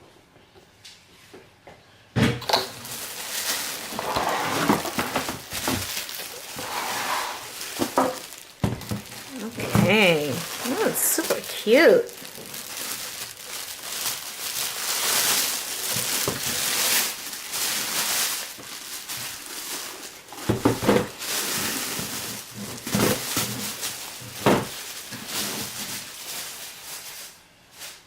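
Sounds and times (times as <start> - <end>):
packaging rustling and crinkling: 2.4 - 28.0.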